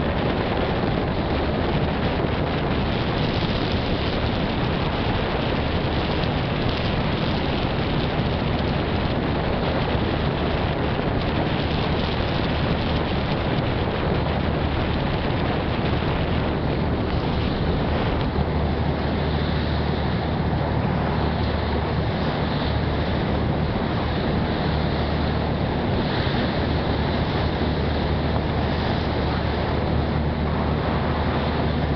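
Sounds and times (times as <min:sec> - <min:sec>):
ferry engine droning: 0:00.0 - 0:31.9
wind and water rushing: 0:00.0 - 0:31.9.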